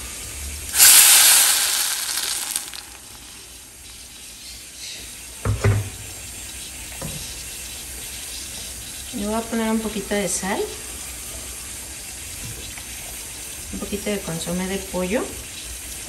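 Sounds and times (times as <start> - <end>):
salsa sizzling in hot oil: 0.0 - 16.0.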